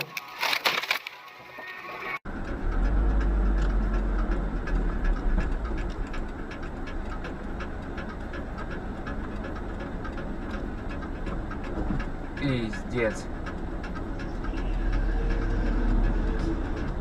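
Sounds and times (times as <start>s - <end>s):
vehicle moving on road: 0.6s - 17.0s
faint regular ticking: 2.3s - 17.0s
heavy low rumble: 2.3s - 17.0s.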